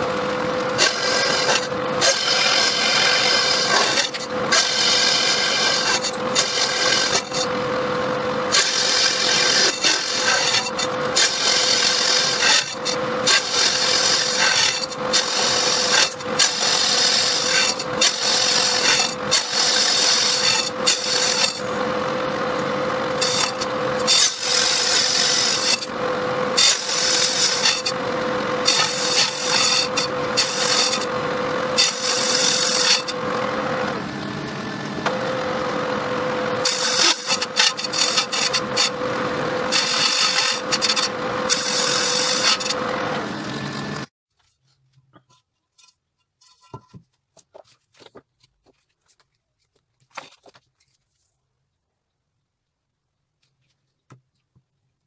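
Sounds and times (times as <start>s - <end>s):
lathe humming: 0.0s - 44.1s
lathe tool cutting metal: 0.0s - 44.1s.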